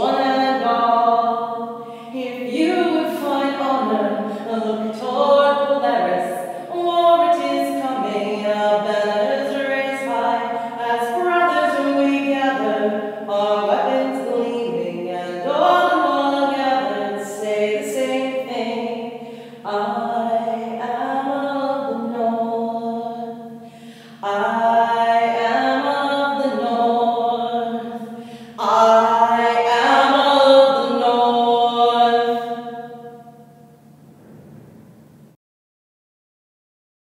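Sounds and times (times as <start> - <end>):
woman singing unaccompanied: 0.0 - 33.3.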